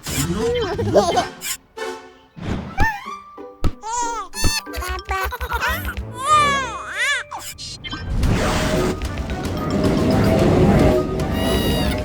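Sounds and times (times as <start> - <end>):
cartoon soundtrack music: 0.0 - 12.0.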